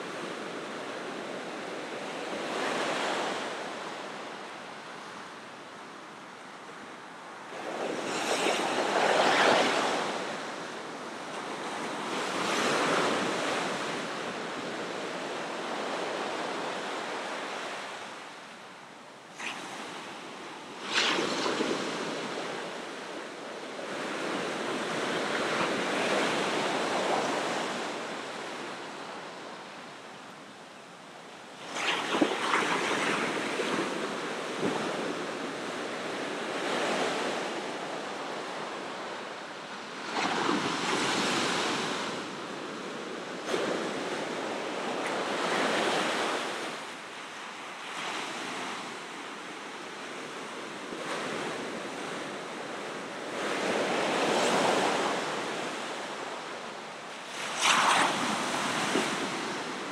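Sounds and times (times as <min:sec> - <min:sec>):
waves breaking on shore: 0:00.0 - 0:18.5, 0:19.2 - 0:30.6, 0:31.3 - 0:59.9.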